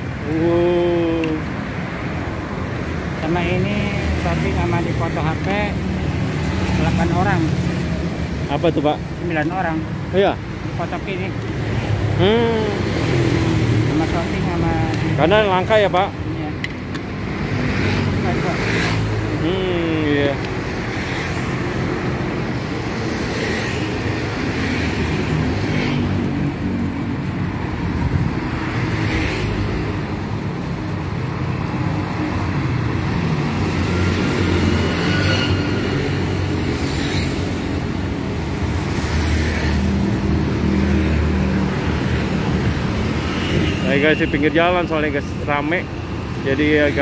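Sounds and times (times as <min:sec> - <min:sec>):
passing cars and motorbikes: 0:00.0 - 0:47.0.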